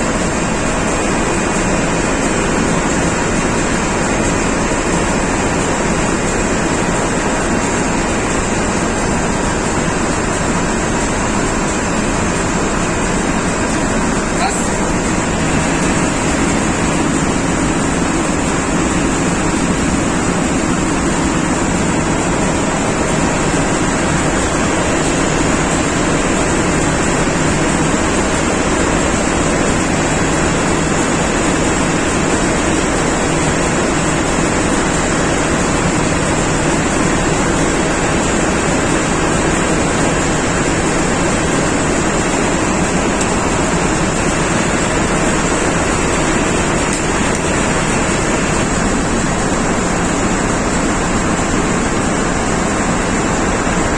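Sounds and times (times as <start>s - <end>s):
diesel engines roaring: 0.0s - 53.9s.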